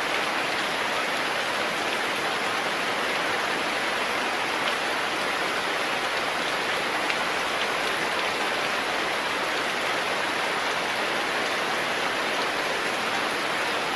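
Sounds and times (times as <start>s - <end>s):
steady rain: 0.0s - 13.9s.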